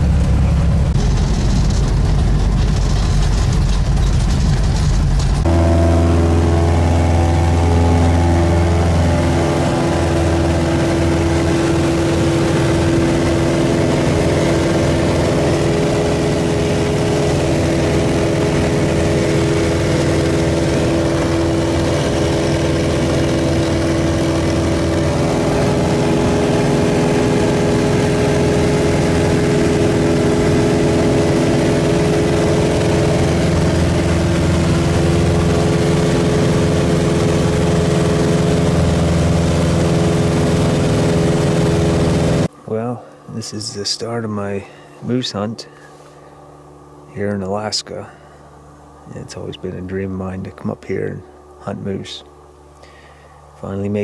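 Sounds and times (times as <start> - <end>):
plane engine and propeller drone: 0.0 - 54.0.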